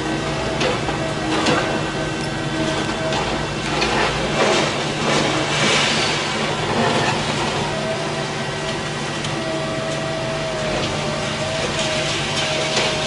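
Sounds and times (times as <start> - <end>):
excavator engine humming: 0.0 - 13.0.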